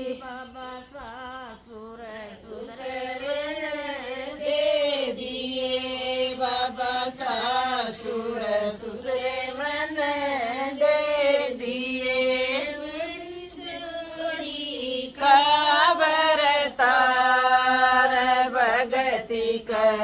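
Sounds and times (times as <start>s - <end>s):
women singing unaccompanied: 0.0s - 20.0s.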